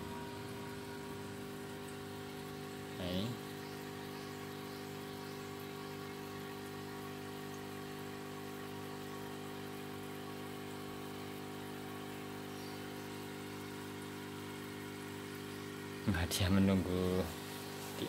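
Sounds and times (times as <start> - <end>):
aquarium pump humming: 0.0 - 18.0
faint hiss of moving water: 0.0 - 18.0.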